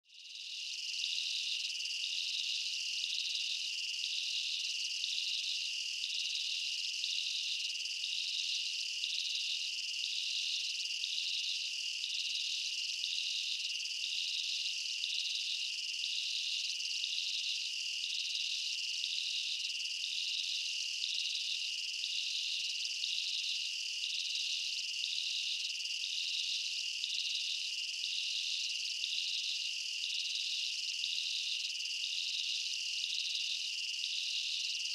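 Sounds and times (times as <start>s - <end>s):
insect chorus drone: 0.1s - 34.9s
pulsing insect chirp: 0.2s - 34.9s.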